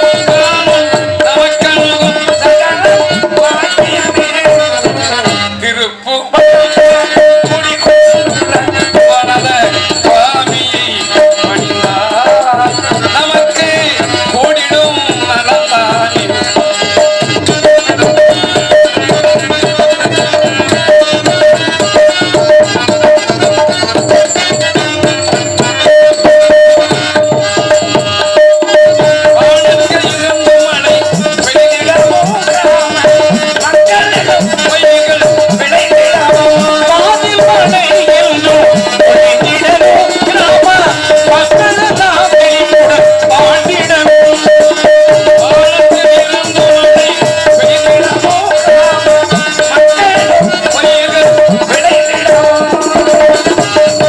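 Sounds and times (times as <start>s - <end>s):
hand-played barrel drum: 0.0s - 54.0s.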